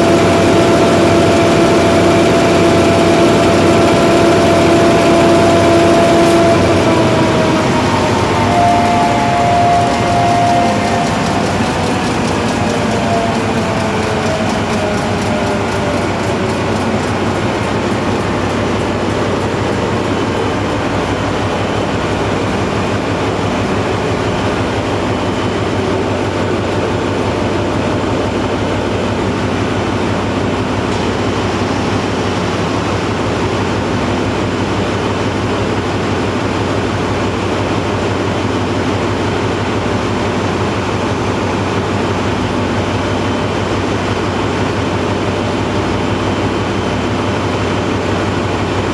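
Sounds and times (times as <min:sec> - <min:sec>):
diesel generator engine running: 0:00.0 - 0:48.9.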